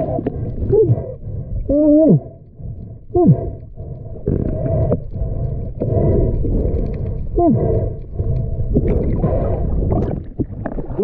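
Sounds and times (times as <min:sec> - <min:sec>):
underwater low rumbling: 0:00.0 - 0:11.0.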